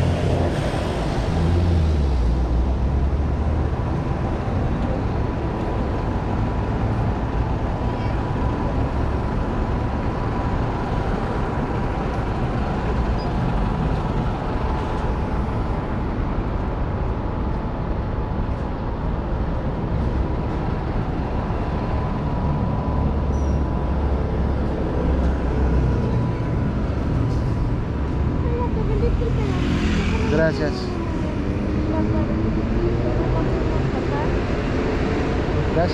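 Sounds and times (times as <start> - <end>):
city street traffic: 0.0 - 35.9.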